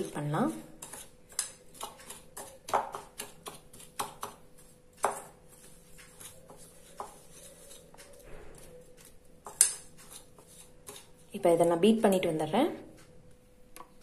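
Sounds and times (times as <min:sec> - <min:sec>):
wire whisk tapping and scraping bowl: 0:00.0 - 0:11.6.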